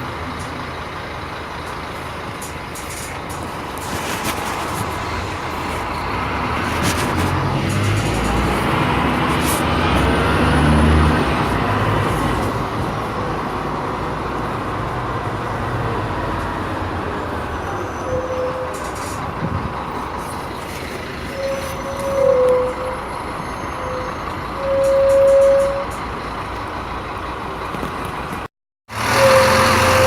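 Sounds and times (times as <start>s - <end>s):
bus diesel engine pulling: 0.0s - 30.0s
road noise: 0.0s - 30.0s.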